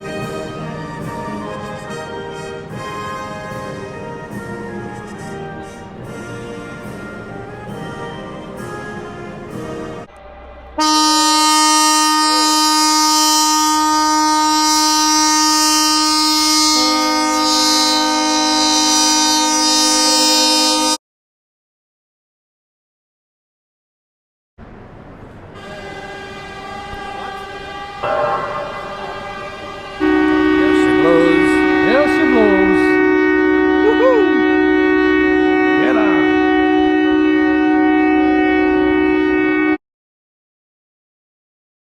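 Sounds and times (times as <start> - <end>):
lower horn: 0.0 - 21.0, 25.6 - 39.8
orchestral music: 0.0 - 21.0, 25.6 - 39.7
ship's horn blast: 0.0 - 21.0, 25.5 - 39.8.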